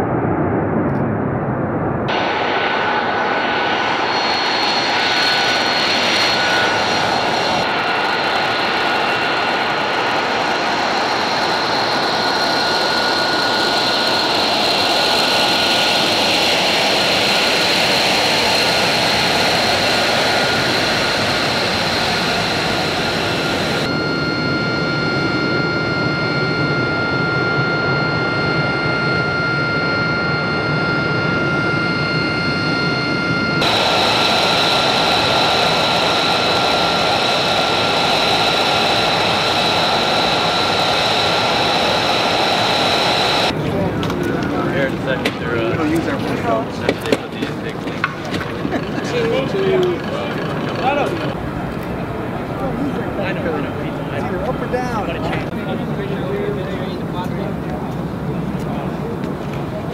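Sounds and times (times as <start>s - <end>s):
jet engine rushing and whining: 0.0s - 59.9s.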